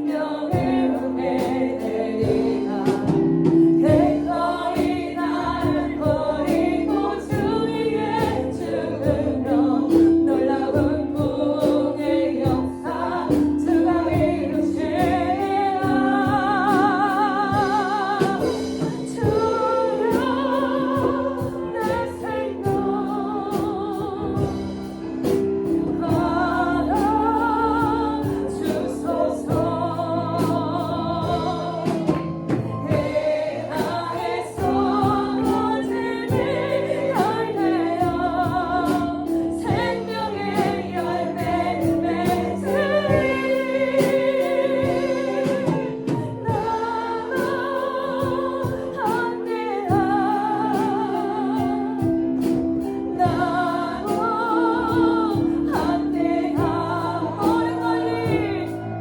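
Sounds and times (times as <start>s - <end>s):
instrumental backing with steady beat: 0.0s - 59.0s
voices singing worship song: 0.0s - 59.0s.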